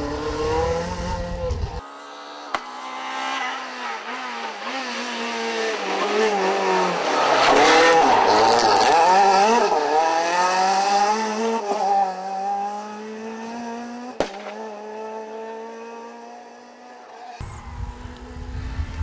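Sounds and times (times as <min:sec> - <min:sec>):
rally car passing at full throttle: 0:00.0 - 0:19.0.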